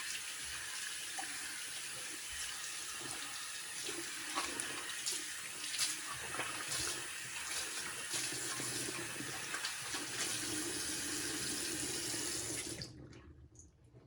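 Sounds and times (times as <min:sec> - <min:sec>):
faucet water splashing into sink: 0:00.0 - 0:13.3.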